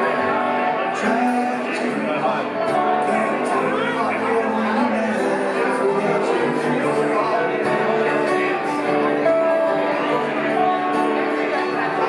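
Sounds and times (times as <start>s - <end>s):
acoustic guitar: 0.0s - 12.0s
banjo: 0.0s - 12.0s
dobro: 0.0s - 12.0s.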